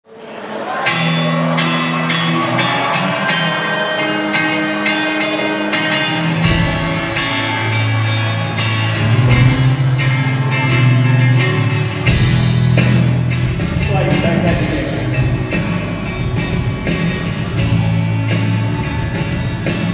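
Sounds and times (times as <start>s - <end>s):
live rock band playing: 0.3s - 19.9s.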